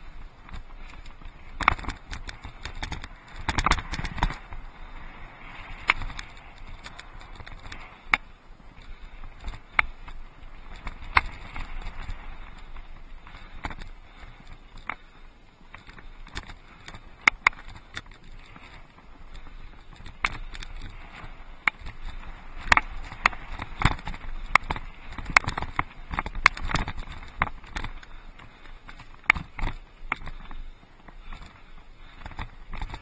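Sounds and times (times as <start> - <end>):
bike knocking and clattering: 0.5 - 4.8, 5.5 - 30.6.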